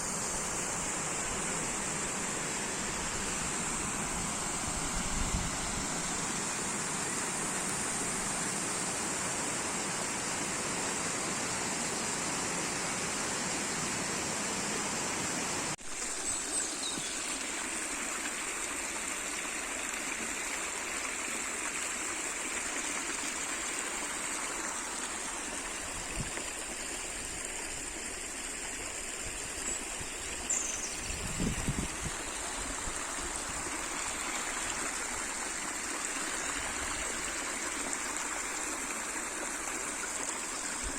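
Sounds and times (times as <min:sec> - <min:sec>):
stream babbling and trickling: 0:00.0 - 0:40.9.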